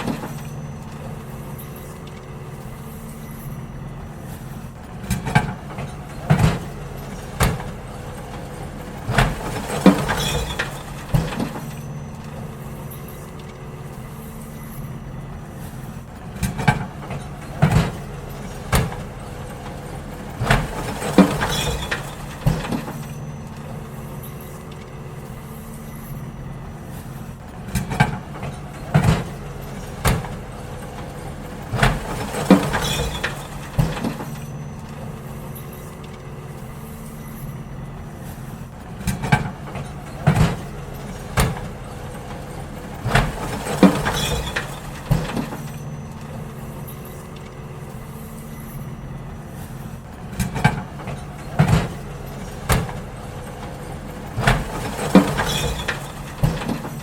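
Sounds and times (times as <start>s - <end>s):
bins banging and knocking: 0.0s - 57.0s
garbage truck engine running: 0.0s - 57.0s.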